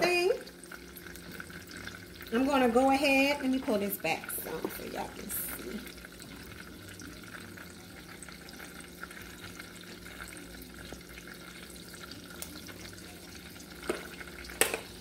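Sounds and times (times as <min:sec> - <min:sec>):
butter sizzling in a saucepan: 0:00.0 - 0:15.0.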